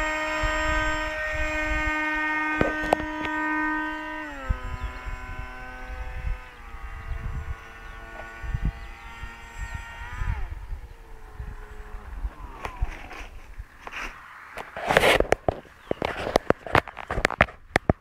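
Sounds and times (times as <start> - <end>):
model jet motor whining: 0.0 - 18.0
wind rumble on microphone: 0.0 - 18.0.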